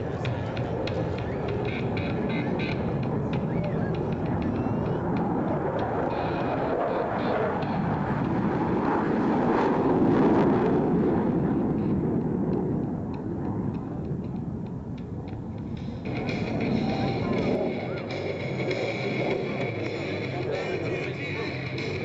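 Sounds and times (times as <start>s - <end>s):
jet engine roar on takeoff: 0.0s - 22.0s.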